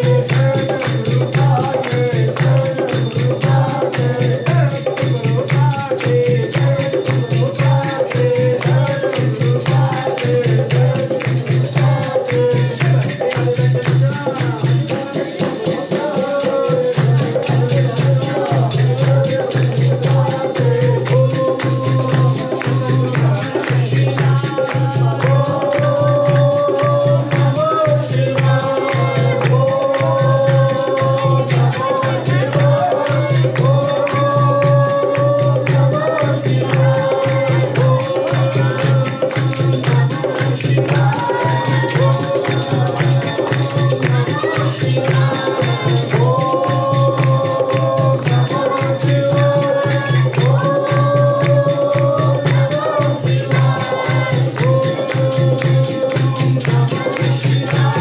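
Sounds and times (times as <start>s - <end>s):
jingling tambourine: 0.0s - 58.0s
voices singing devotional song: 0.0s - 58.0s.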